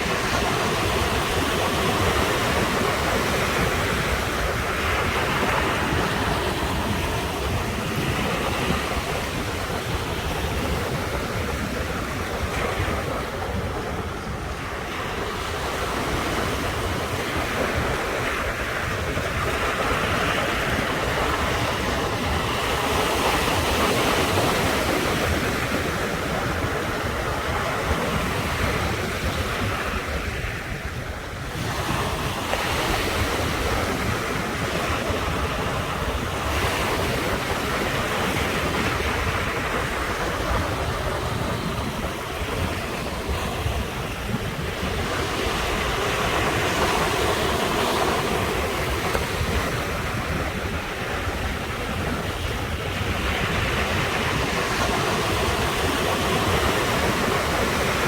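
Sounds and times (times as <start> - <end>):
sea waves breaking on shore: 0.0 - 58.0
wind buffeting microphone: 0.0 - 58.0.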